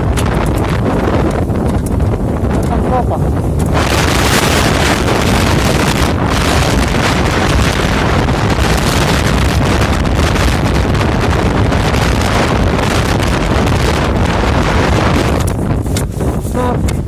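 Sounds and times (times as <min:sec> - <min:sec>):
blizzard wind buffeting microphone: 0:00.0 - 0:17.0.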